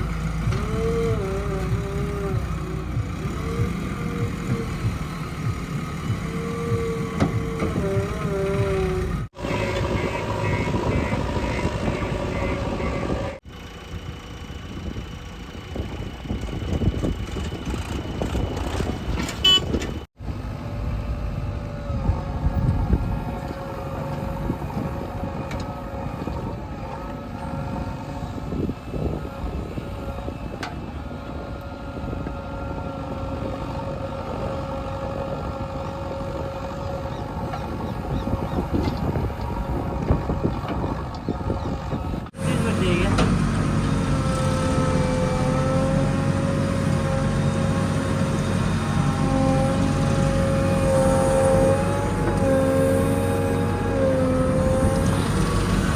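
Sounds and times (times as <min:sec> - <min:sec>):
diesel machinery engines: 0:00.0 - 0:55.9.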